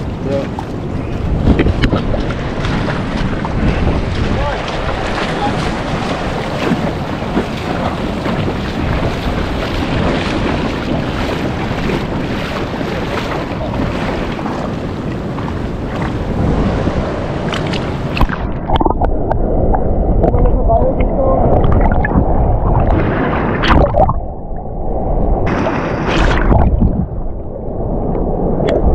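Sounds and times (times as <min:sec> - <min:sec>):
surf rushing: 0:00.0 - 0:28.9
wind buffeting microphone: 0:00.0 - 0:28.9.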